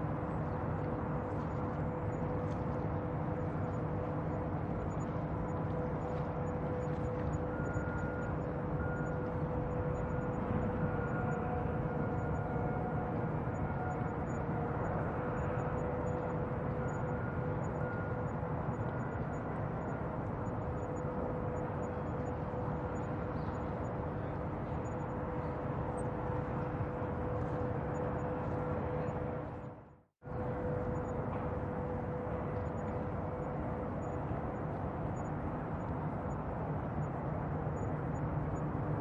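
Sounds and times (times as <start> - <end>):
distant machinery and traffic rumble: 0.0 - 39.0.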